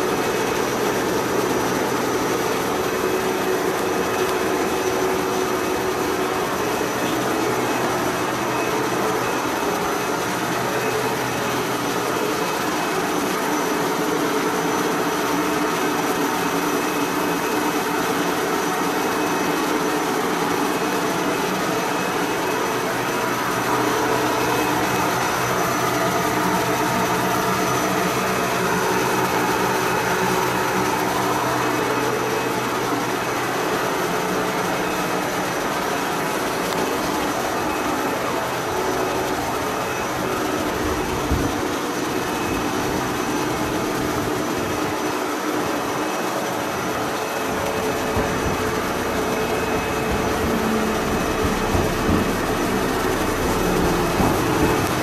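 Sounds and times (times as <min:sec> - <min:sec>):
idling electric trains humming: 0:00.0 - 0:55.0.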